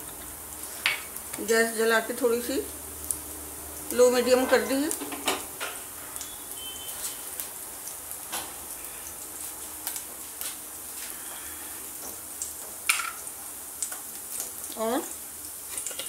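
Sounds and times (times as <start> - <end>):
seeds sizzling and popping in oil: 0.0 - 16.0.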